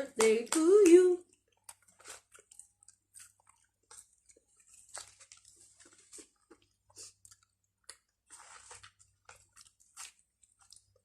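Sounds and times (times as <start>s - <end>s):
person chewing food: 1.2s - 11.0s.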